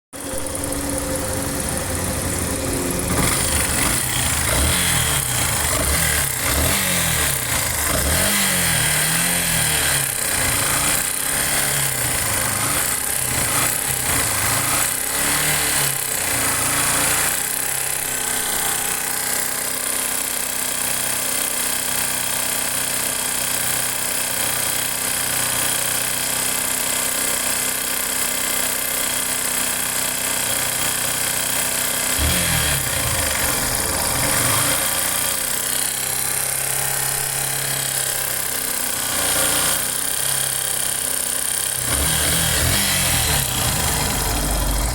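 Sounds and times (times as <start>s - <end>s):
motorcycle engine revving and idling: 0.2s - 44.9s.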